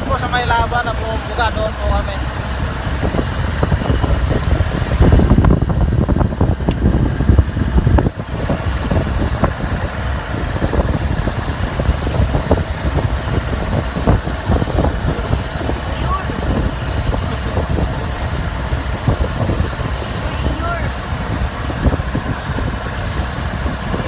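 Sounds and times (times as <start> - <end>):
vehicle ride rumble: 0.0 - 24.0.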